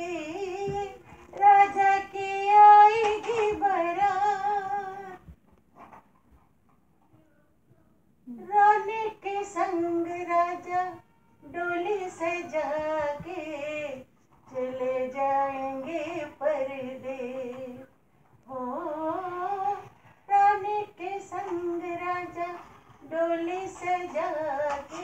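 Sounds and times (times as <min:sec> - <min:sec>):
high voice singing unaccompanied: 0:00.0 - 0:05.3, 0:07.2 - 0:17.9, 0:18.5 - 0:25.0.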